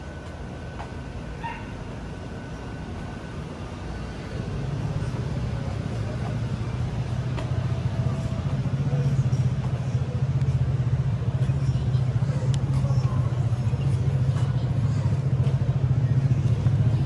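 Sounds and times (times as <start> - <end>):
street noise: 0.0 - 17.0
vehicle engine rumbling: 0.0 - 17.0.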